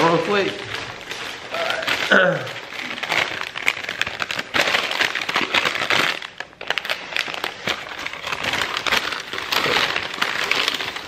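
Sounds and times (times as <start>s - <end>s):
gift wrapping crinkling: 0.0s - 11.0s.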